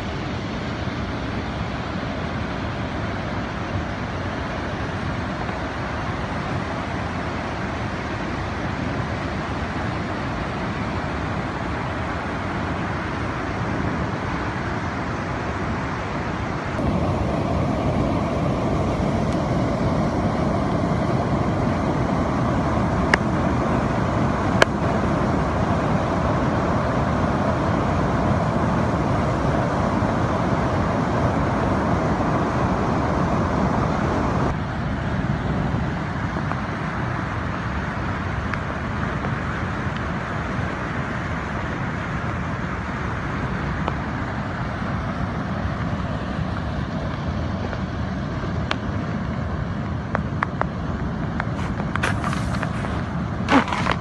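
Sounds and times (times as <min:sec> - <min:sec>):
rain: 0:00.0 - 0:54.0
rushing floodwater: 0:00.0 - 0:54.0.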